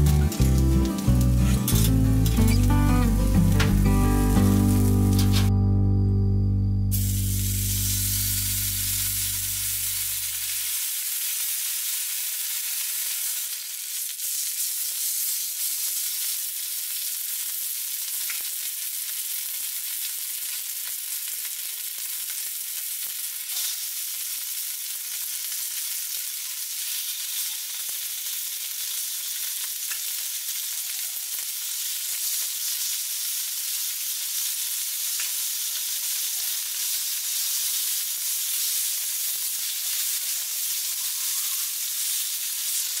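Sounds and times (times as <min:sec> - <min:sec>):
steak sizzling on griddle: 0:00.0 - 0:05.6, 0:06.9 - 0:43.0.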